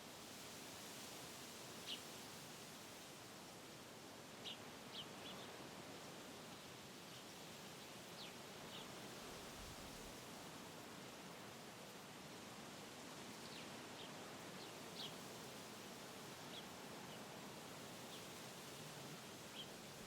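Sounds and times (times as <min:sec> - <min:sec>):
wind rustling through trees: 0:00.0 - 0:20.0.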